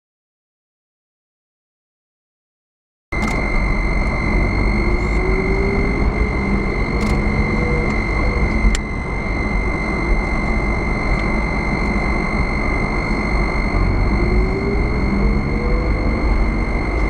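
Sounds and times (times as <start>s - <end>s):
high whine: 3.1s - 17.0s
car road and engine rumble: 3.2s - 17.0s.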